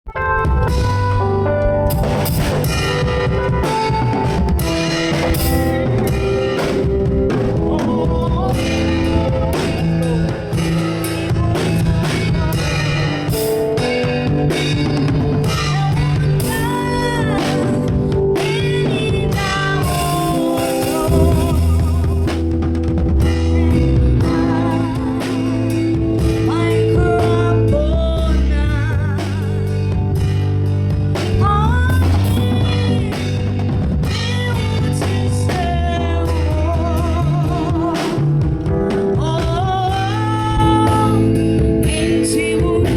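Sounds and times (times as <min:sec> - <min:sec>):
live band playing: 0:00.0 - 0:42.9
person singing: 0:03.6 - 0:22.6, 0:23.3 - 0:29.9, 0:31.3 - 0:42.9.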